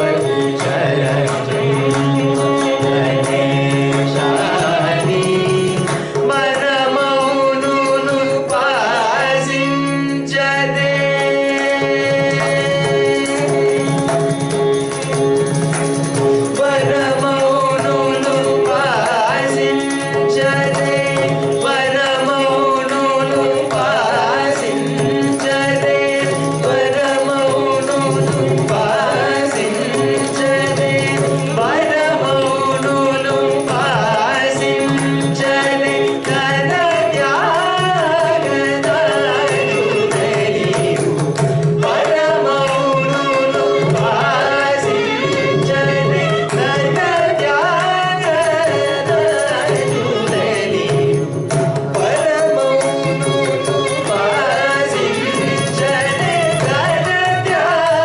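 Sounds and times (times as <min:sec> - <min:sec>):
hand drum accompaniment: 0:00.0 - 0:58.0.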